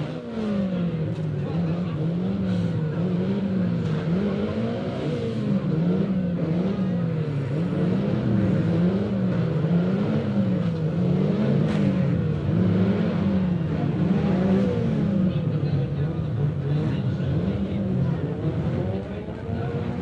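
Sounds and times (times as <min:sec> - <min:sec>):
car engines revving: 0:00.0 - 0:20.0
steady engine drone: 0:00.0 - 0:20.0.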